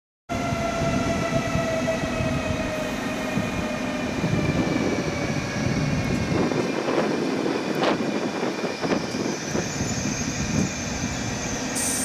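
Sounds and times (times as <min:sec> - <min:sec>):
train power car whine: 0:00.3 - 0:12.0.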